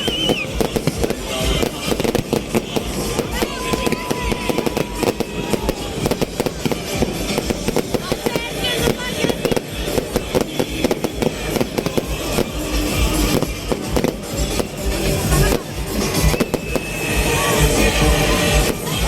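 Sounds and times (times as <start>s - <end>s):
fireworks cracking and banging: 0.0s - 19.0s
music playing: 0.0s - 19.0s.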